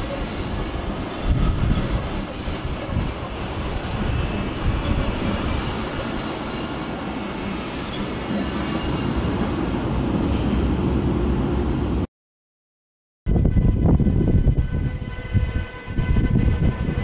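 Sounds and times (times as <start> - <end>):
train wheels rumbling on rails: 0.0 - 12.0, 13.3 - 17.0.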